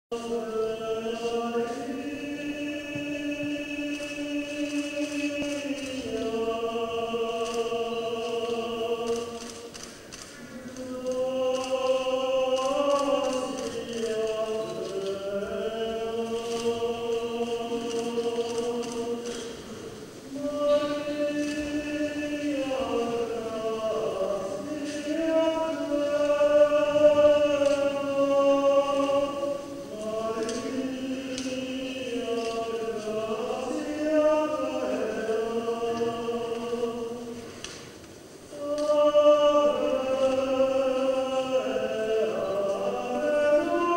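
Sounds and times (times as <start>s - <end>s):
voices singing a slow hymn: 0.1s - 43.9s.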